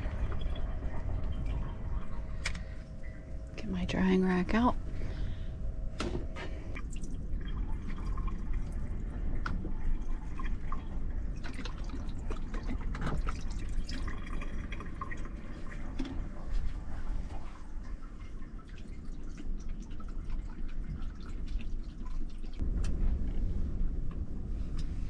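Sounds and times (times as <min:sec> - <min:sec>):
water trickling and dripping: 0:00.0 - 0:04.6, 0:06.7 - 0:22.6
steady low rumble: 0:00.0 - 0:19.9, 0:22.5 - 0:25.0.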